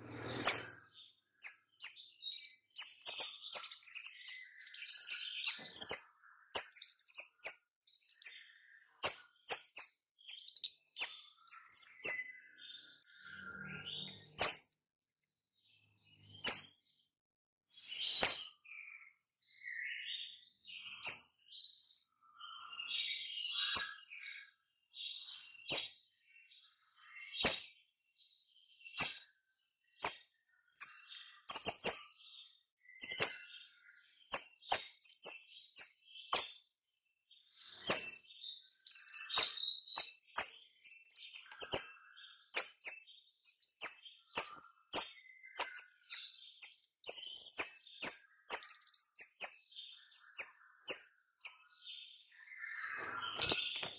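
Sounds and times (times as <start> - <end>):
soft bird twittering: 0.0 - 14.8, 15.6 - 17.1, 17.7 - 36.7, 37.3 - 53.9
songbird chirping: 0.0 - 17.1, 17.7 - 53.9.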